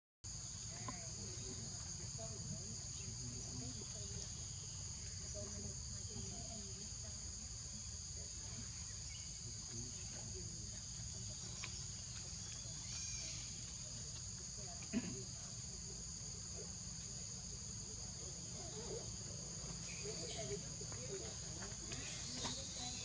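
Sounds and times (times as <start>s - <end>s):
insect chorus buzzing: 0.3s - 23.0s.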